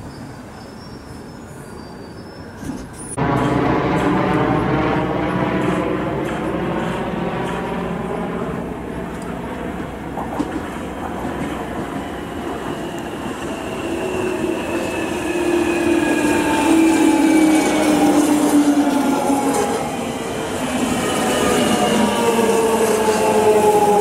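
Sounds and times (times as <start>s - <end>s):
train wheels rumbling on rails: 2.5s - 24.0s.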